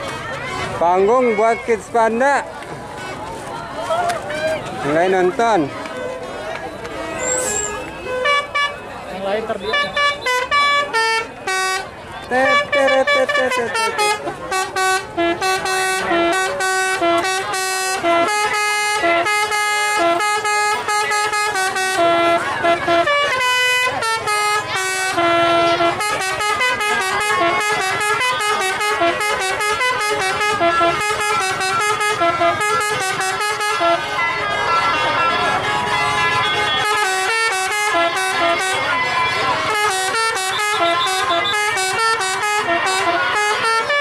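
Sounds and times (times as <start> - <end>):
bus horn playing a fast melody: 7.0 - 44.0.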